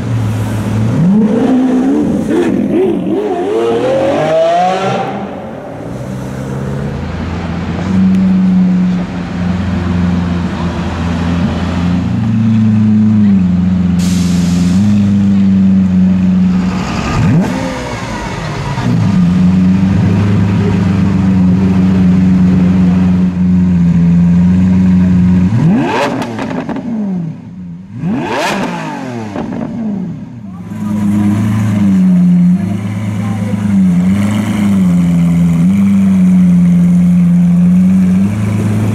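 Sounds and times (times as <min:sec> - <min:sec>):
sports car engine revving: 0:00.0 - 0:13.9, 0:14.6 - 0:38.9.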